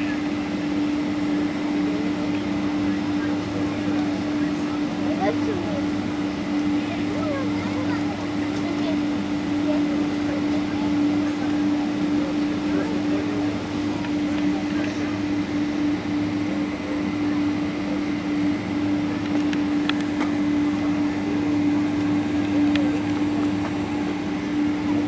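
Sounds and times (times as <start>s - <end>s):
airplane cabin drone: 0.0s - 25.0s.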